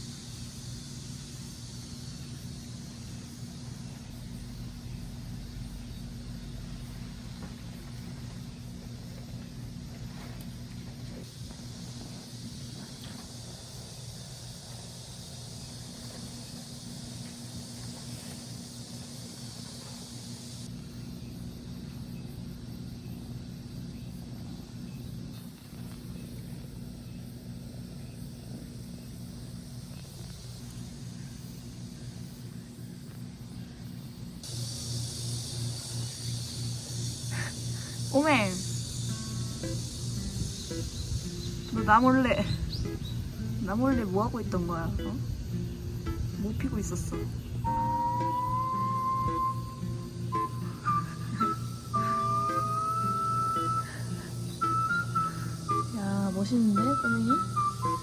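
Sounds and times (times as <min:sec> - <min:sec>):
engine humming low: 0:00.0 - 0:58.0
even hiss: 0:00.0 - 0:58.0.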